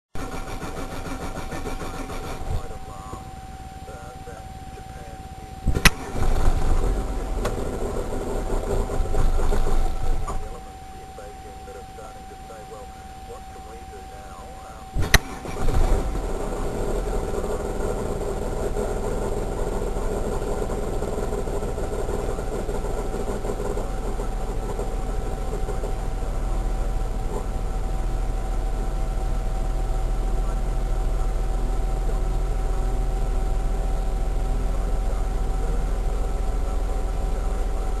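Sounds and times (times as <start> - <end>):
car engine starting and idling: 0.2 - 38.0
steady whining tone: 0.2 - 38.0.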